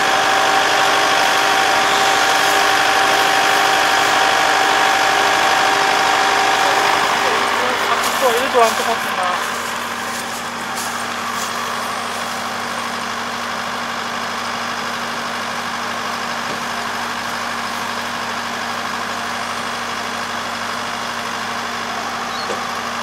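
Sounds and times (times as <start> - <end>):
harvester engine humming: 0.0 - 23.0.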